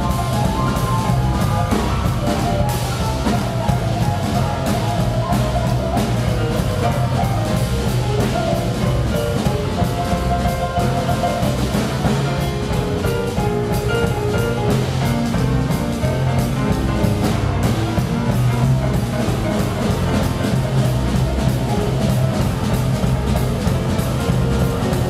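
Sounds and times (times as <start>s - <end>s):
boogie-woogie piano: 0.0s - 25.0s
drum kit with cymbal strokes: 0.0s - 25.0s
plucked double bass: 0.0s - 25.0s.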